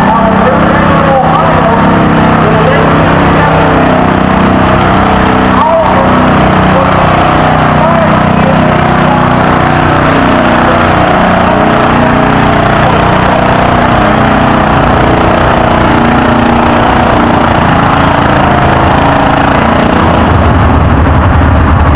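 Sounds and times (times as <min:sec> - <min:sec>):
deeper engine rumble: 0:00.0 - 0:21.9
garden tractor engine running: 0:00.0 - 0:21.9.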